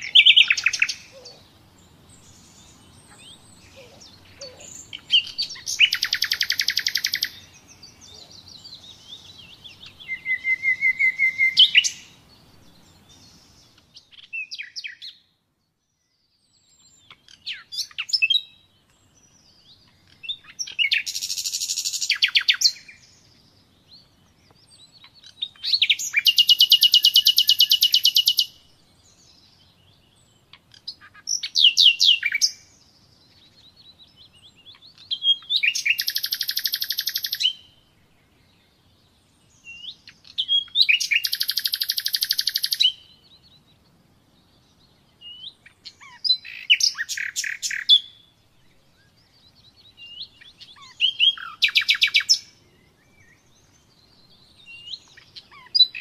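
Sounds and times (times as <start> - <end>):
nightingale singing trills: 0.0 - 56.0.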